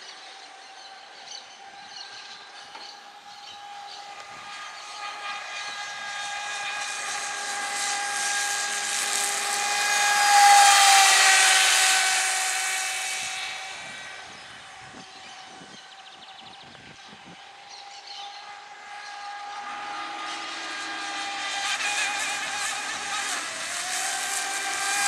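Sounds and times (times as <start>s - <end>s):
high motor whine of boat: 0.0s - 25.0s.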